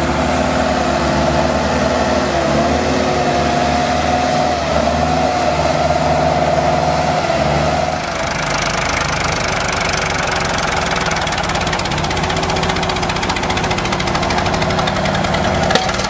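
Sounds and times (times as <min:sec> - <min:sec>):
tractor engine running hard: 0:00.0 - 0:16.0
tyres spinning in mud: 0:00.0 - 0:16.0.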